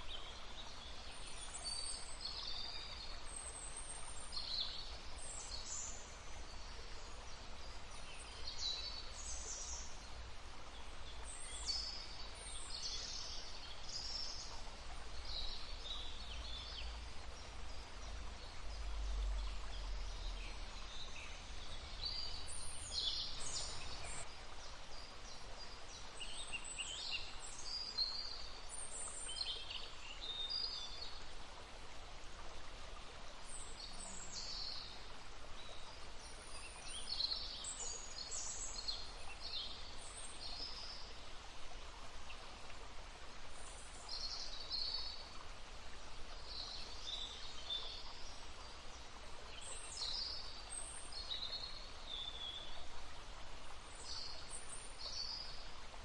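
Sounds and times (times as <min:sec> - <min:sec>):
songbirds singing: 0:00.0 - 0:31.3, 0:33.3 - 0:41.6, 0:43.6 - 0:56.0
stream babbling: 0:00.0 - 0:56.0.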